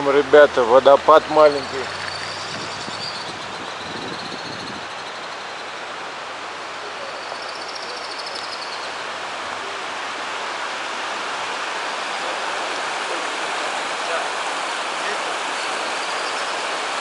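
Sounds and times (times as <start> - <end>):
rush of falling water: 0.0 - 17.0.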